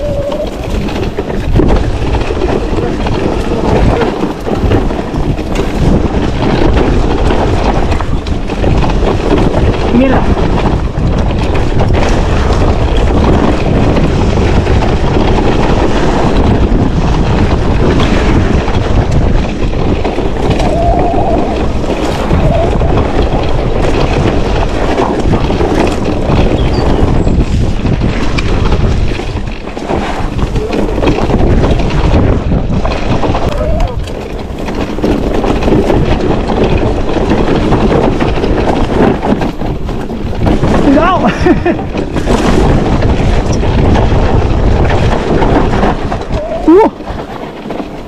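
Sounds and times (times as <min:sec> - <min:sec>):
bike tyres clattering on dirt trail: 0:00.0 - 0:48.0
wind rushing over microphone: 0:00.0 - 0:48.0.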